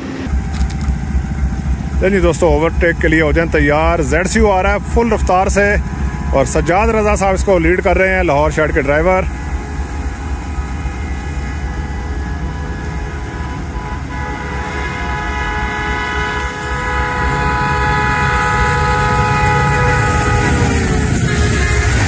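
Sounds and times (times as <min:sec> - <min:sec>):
locomotive horn chord: 0:00.0 - 0:22.0
low train rumble: 0:00.0 - 0:22.0.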